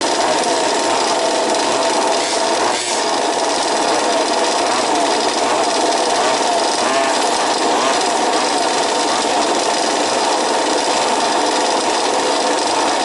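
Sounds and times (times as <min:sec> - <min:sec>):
small two-stroke engines buzzing: 0:00.0 - 0:13.0.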